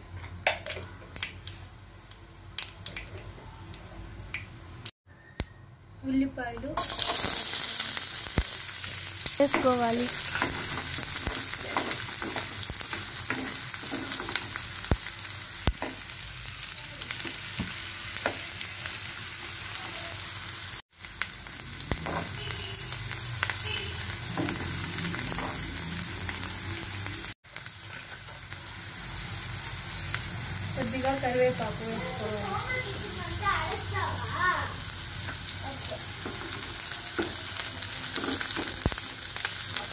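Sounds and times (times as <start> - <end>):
onions sizzling in oil: 6.2 - 39.9.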